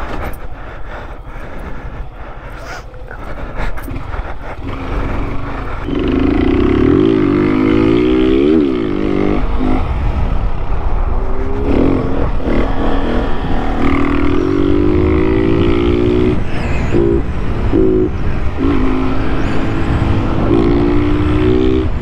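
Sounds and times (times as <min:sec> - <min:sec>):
motorcycle engine revving: 0:03.8 - 0:22.0.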